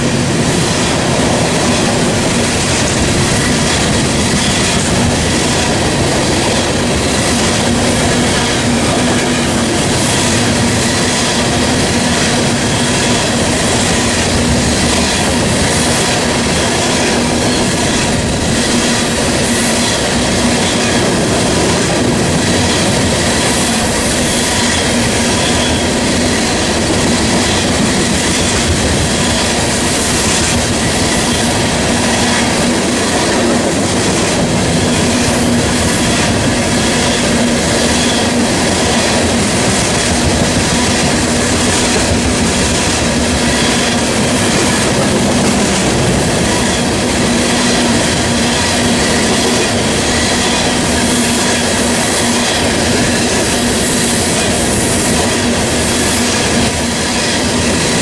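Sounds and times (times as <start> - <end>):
freight train rumbling past: 0.0 - 58.0
train wheels clicking over rail joints: 0.0 - 58.0.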